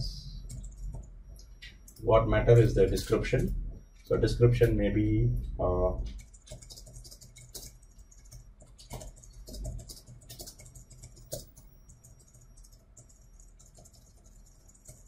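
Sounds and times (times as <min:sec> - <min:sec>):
low steady hum: 0:00.0 - 0:15.0
keyboard typing clicks: 0:00.3 - 0:04.8, 0:06.0 - 0:15.0.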